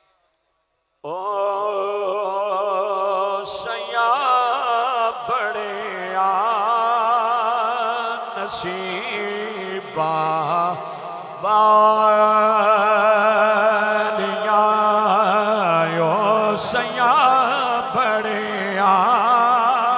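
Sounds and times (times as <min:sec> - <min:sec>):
man chanting melodically: 0:01.1 - 0:19.9.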